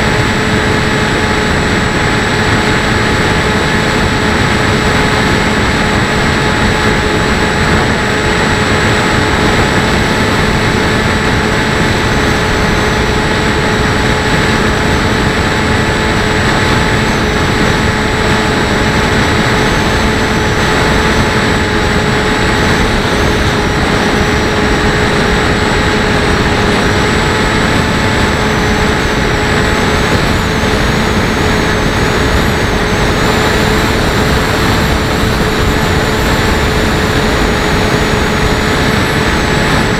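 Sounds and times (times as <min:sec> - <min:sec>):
electric motor and propeller whine: 0:00.0 - 0:39.9
wind rushing on microphone: 0:00.0 - 0:39.9.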